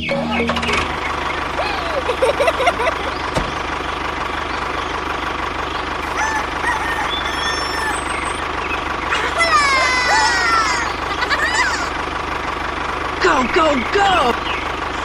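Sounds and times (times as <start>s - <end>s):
chickens clucking: 0.0s - 12.2s
birds chirping: 0.0s - 15.0s
tractor engine running: 0.0s - 15.0s.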